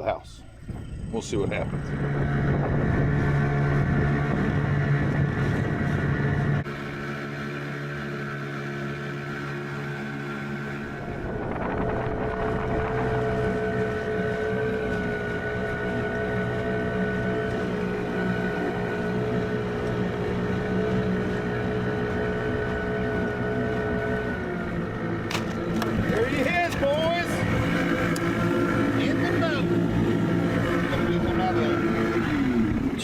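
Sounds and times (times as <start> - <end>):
boat motor running with a whine: 0.0 - 33.0.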